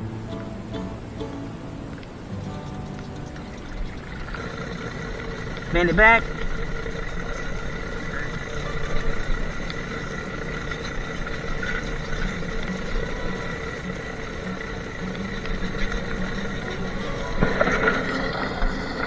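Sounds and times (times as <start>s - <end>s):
motor hum with held tones: 1.9s - 19.0s.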